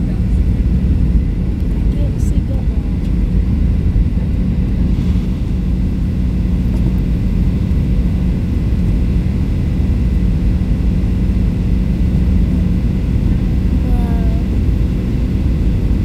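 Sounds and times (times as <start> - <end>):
airliner cabin engine drone: 0.0 - 16.0.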